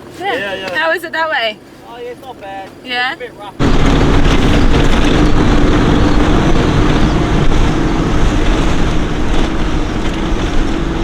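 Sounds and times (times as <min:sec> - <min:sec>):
wind and road noise: 0:00.0 - 0:11.0
vehicle engine drone: 0:01.6 - 0:11.0.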